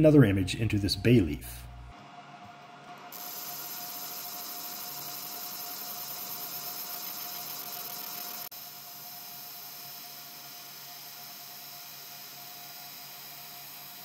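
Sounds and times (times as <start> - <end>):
fan hiss: 0.0 - 14.0.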